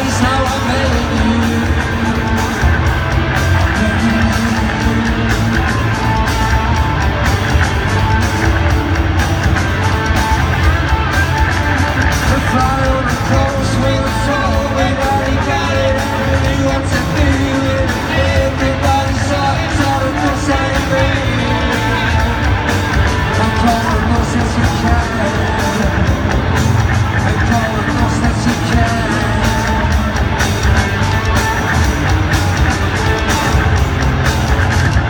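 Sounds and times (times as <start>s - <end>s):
live band with singer over pa: 0.0s - 35.0s.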